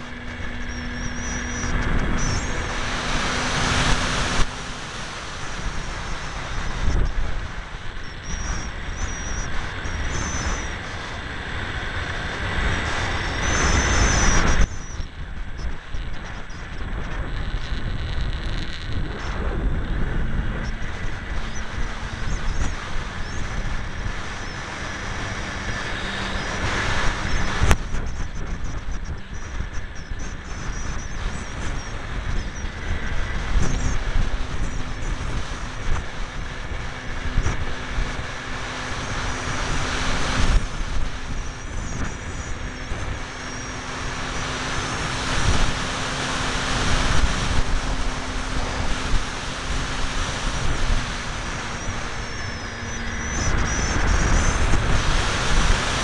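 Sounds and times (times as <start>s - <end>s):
electric motor and propeller hum: 0.0s - 56.0s
wind buffeting microphone: 0.0s - 56.0s.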